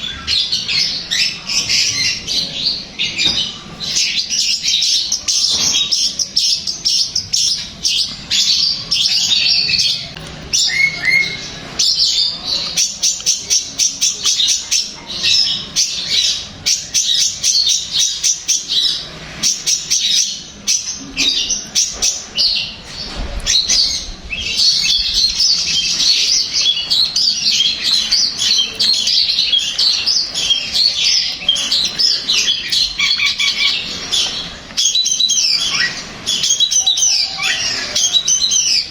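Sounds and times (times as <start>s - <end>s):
shrike chattering song: 0.0s - 38.9s.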